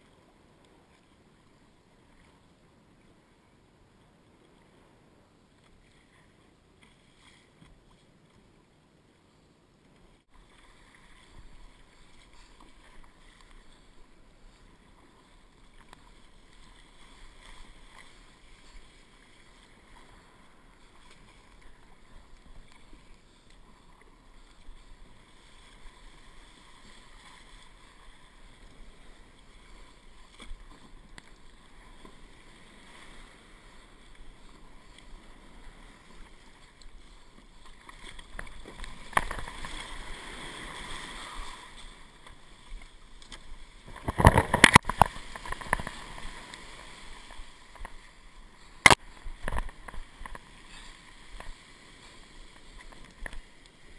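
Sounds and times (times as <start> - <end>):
water splashing around kayak: 0.0 - 53.9
whitewater washing around hull: 10.2 - 53.9.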